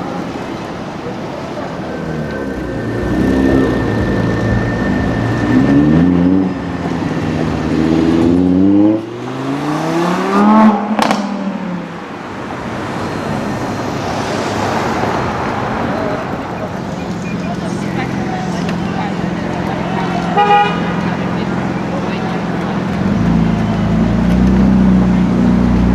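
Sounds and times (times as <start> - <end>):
sports car engine accelerating: 0.0 - 25.9
traffic and road noise: 0.0 - 25.9.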